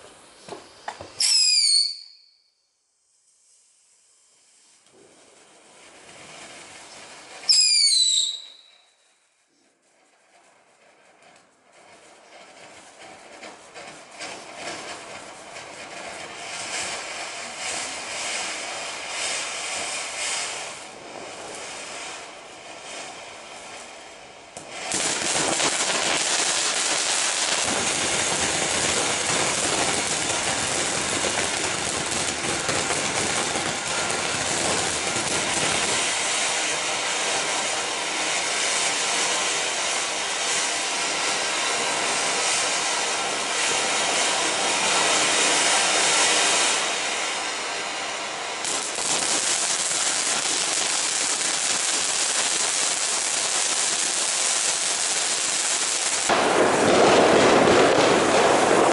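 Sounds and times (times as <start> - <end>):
firework fountains hissing: 0.0 - 2.3, 3.0 - 8.9, 9.5 - 58.9.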